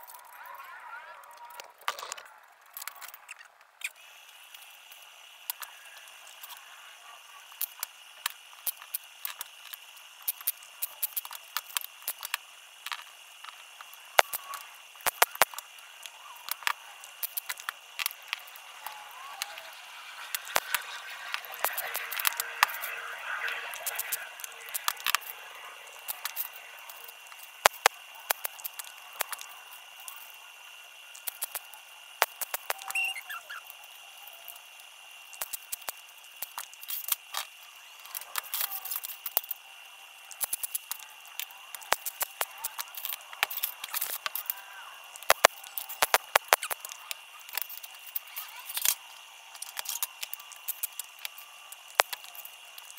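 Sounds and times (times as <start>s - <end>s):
steady high whine: 0.0s - 52.9s.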